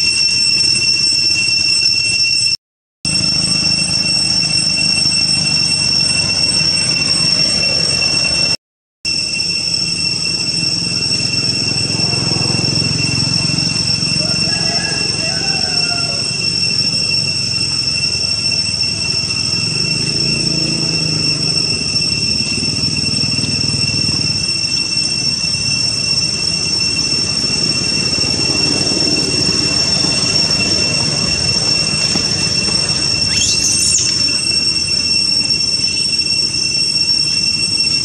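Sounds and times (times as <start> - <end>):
rising squeal: 0.0 - 38.0
high-pitched insect drone: 3.1 - 38.0.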